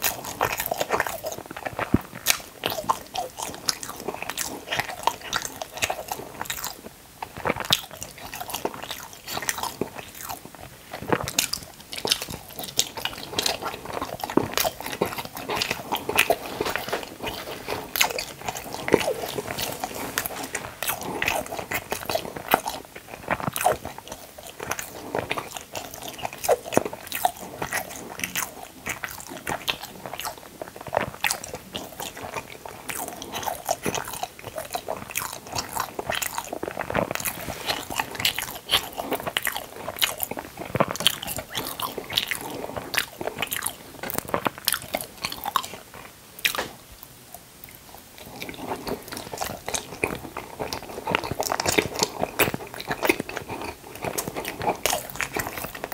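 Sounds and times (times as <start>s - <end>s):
person biting and chewing food: 0.0s - 46.8s, 47.7s - 55.9s.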